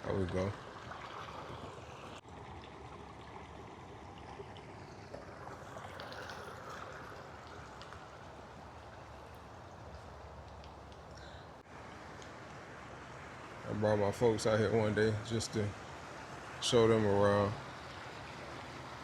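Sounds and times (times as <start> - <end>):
flowing water: 0.0 - 19.0.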